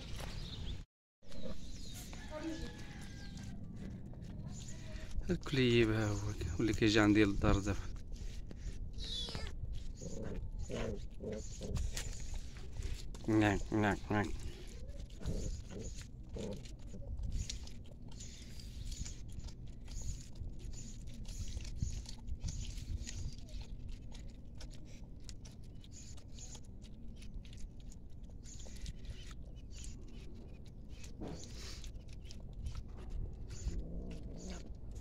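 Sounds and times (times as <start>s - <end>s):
animals chewing food: 0.0s - 35.0s
steady low rumble: 0.0s - 35.0s.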